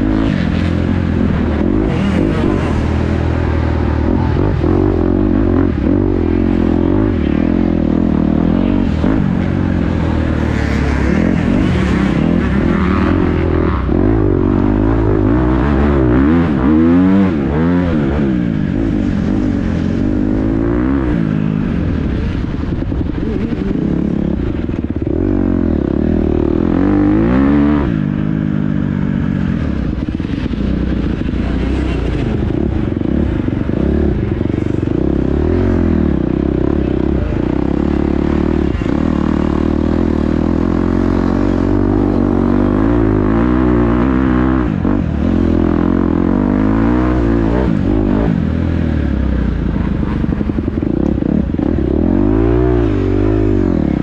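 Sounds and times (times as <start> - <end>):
dirt bike engine revving: 0.0 - 49.4, 50.0 - 54.0.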